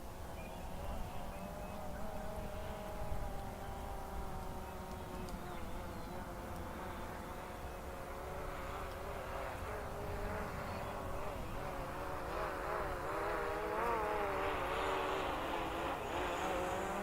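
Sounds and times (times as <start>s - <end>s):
drone propellers buzzing: 1.0s - 17.0s.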